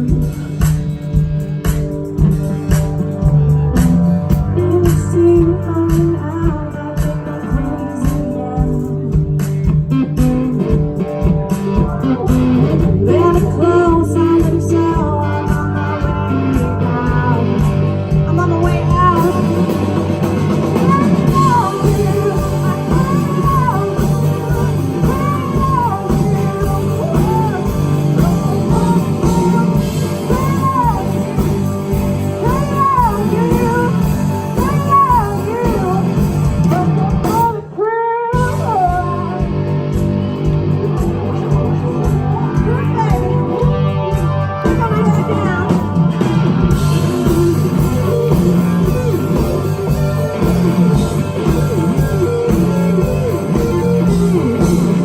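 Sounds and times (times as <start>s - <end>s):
live blues-rock band: 0.0s - 55.0s.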